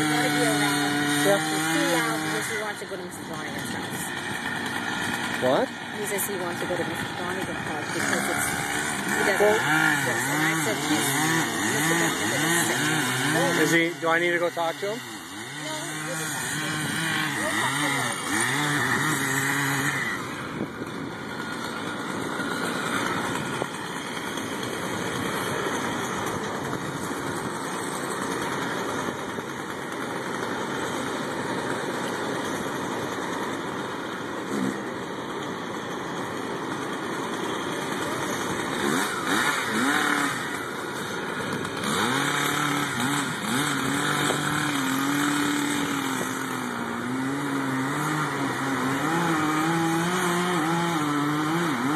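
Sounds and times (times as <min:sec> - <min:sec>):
power equipment engines running: 0:00.0 - 0:51.9.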